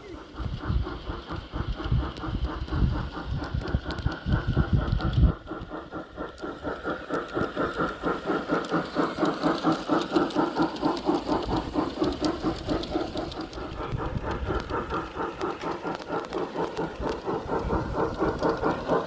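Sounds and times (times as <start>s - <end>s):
model train running: 0.0s - 19.0s.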